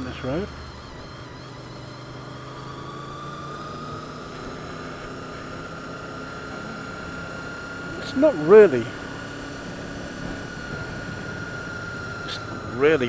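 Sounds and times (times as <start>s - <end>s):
motorcycle engine running: 0.0s - 13.0s
thin engine whine: 0.0s - 13.0s
wind and road noise: 0.0s - 13.0s.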